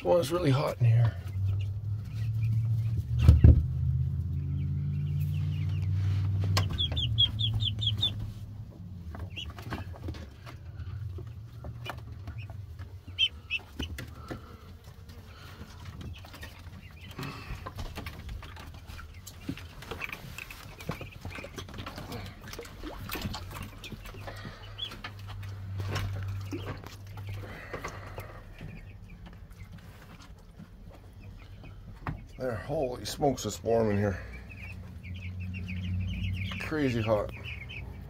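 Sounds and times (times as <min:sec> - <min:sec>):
chickens clucking and peeping: 0:00.0 - 0:38.0
low steady hum: 0:00.0 - 0:38.0.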